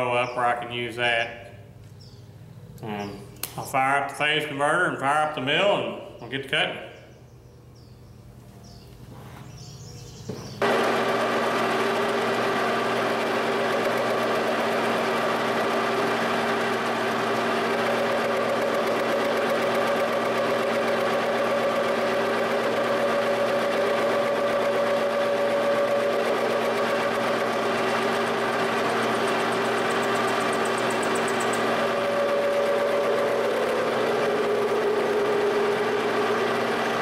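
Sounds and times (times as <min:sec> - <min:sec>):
machine electric hum: 0:00.0 - 0:37.0.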